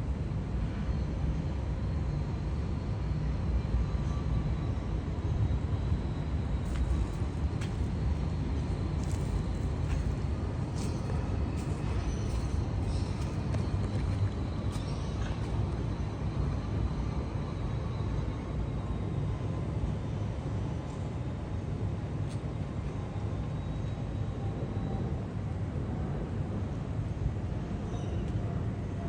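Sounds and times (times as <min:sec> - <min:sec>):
city street low rumble: 0:00.0 - 0:29.0.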